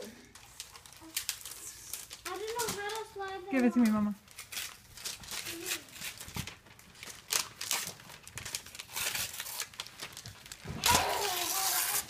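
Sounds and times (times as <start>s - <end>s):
wrapping paper crinkling and tearing: 0.0s - 12.0s.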